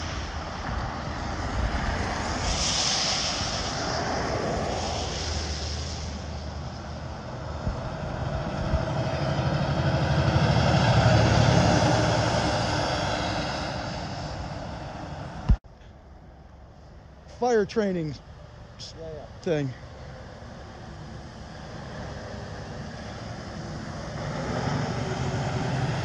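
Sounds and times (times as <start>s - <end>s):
pickup truck tyre rush: 0.0s - 15.6s, 16.8s - 26.0s
truck diesel engine passing: 0.0s - 26.0s.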